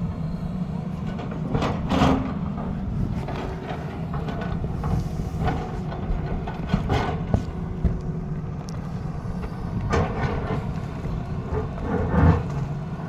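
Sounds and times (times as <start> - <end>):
diesel engine running under load: 0.0 - 13.0
excavator scraping: 0.2 - 13.0.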